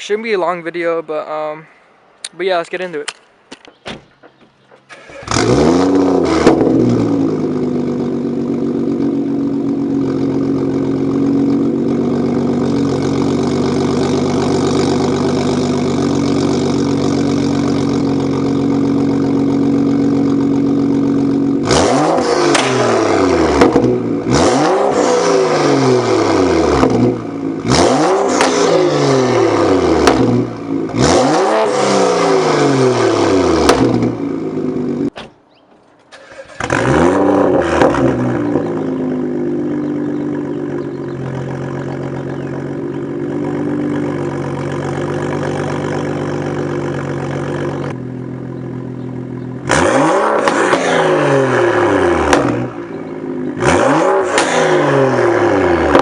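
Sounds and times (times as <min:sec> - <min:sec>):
car engine idling: 0:02.9 - 0:56.0
car engine revving: 0:04.1 - 0:56.0.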